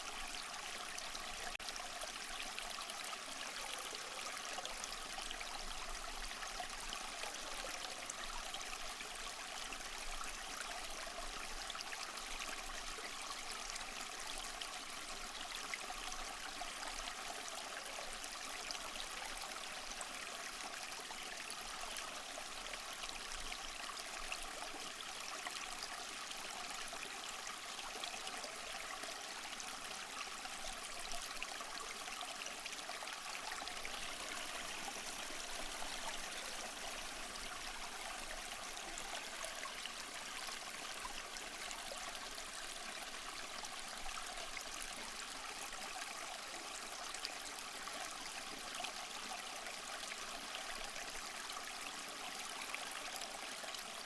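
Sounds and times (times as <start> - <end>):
small waterfall splashing over rocks: 0.0 - 54.0.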